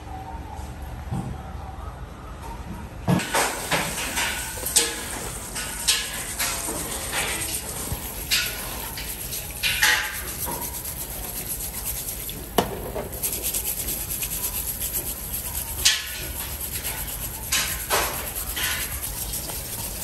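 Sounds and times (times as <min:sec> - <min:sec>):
brush scrubbing shells: 0:03.2 - 0:20.0
running tap water: 0:03.2 - 0:20.0
sharp knocks and scrapes: 0:03.2 - 0:20.0.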